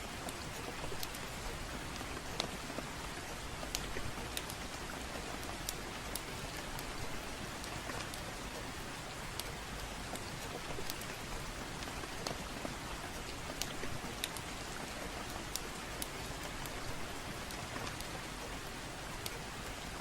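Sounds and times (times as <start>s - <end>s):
gentle rain: 0.0s - 20.0s
fire crackling: 0.1s - 20.0s.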